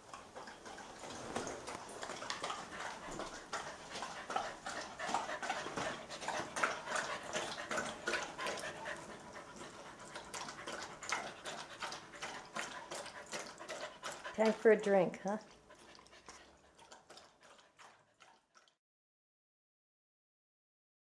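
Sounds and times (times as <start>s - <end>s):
dogs panting: 0.0s - 18.8s.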